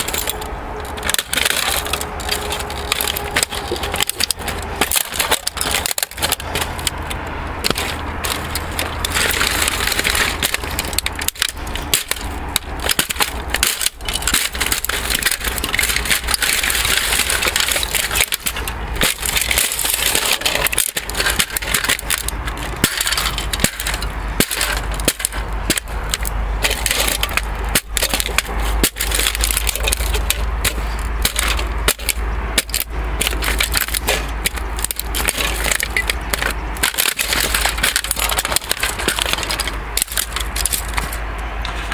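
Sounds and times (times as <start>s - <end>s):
plastic cracking under boot stomps: 0.0s - 41.9s.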